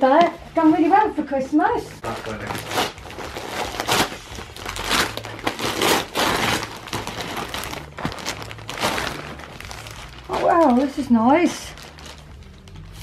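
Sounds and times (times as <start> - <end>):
wrapping paper tearing and crinkling: 2.0 - 13.0.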